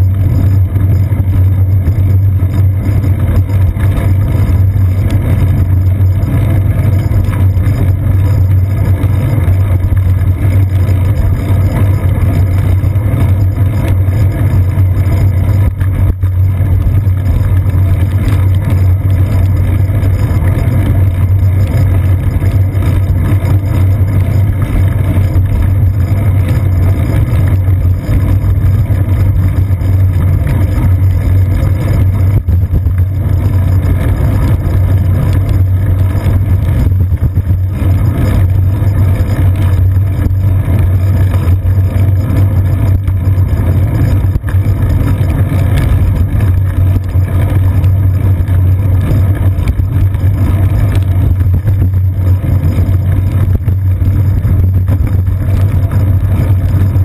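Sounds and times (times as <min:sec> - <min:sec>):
wind and road rumble: 0:00.0 - 0:57.0.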